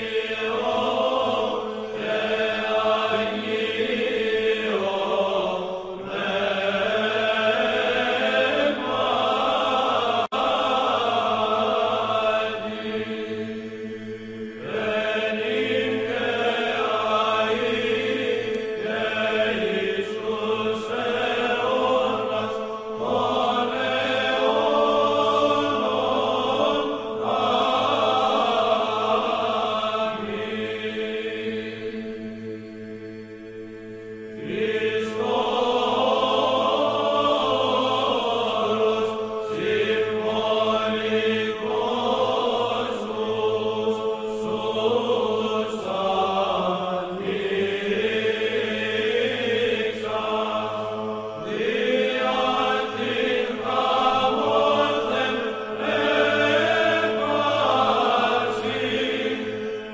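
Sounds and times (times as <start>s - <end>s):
voices chanting long notes: 0.0s - 59.9s.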